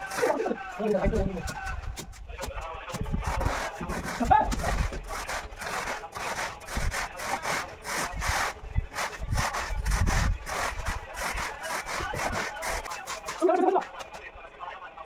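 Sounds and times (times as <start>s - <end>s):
metal bar scraping cement: 0.0s - 1.4s, 2.9s - 14.1s.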